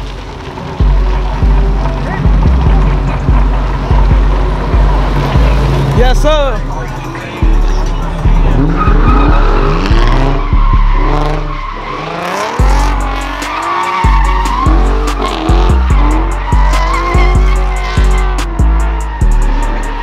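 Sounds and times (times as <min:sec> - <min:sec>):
engines revving: 0:00.0 - 0:20.0
music with heavy bass beat: 0:00.8 - 0:20.0
tyres squealing: 0:01.2 - 0:20.0.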